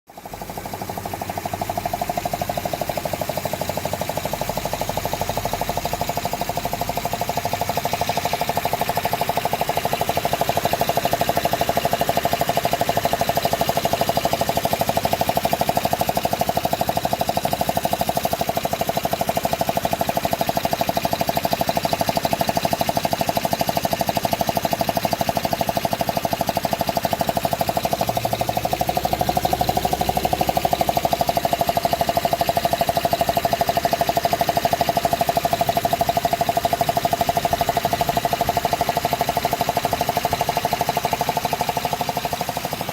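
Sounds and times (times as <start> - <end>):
car engine running: 0.1 - 42.9
fast rhythmic engine noise: 0.1 - 42.9.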